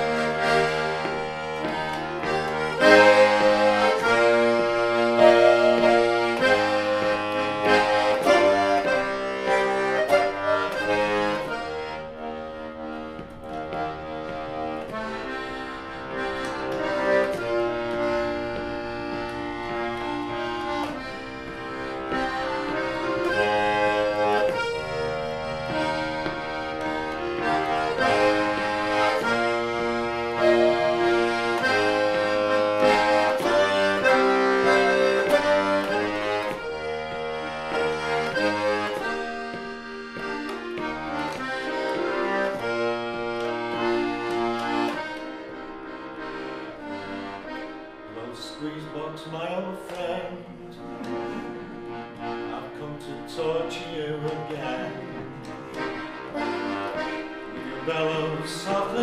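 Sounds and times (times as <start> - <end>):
button accordion playing: 0.0 - 59.0.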